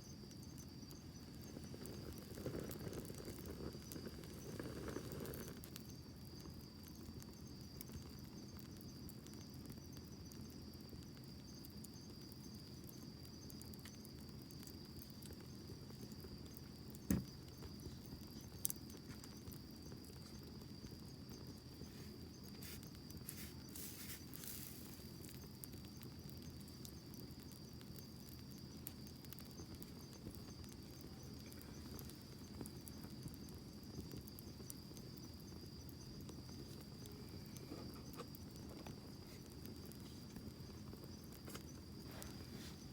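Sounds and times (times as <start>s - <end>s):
campfire crackling: 0.0s - 42.9s
insect trill: 0.0s - 42.9s
fire popping: 0.1s - 42.9s.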